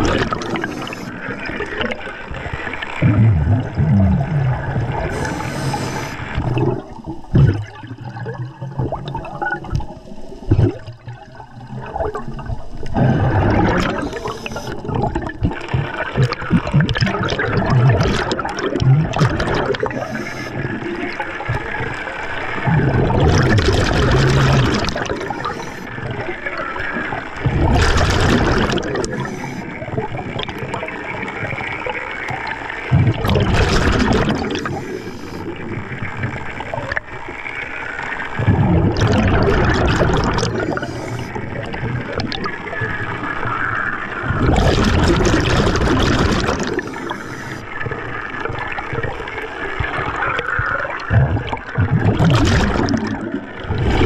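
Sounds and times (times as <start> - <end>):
underwater breathing bubbles: 0.0 - 54.0.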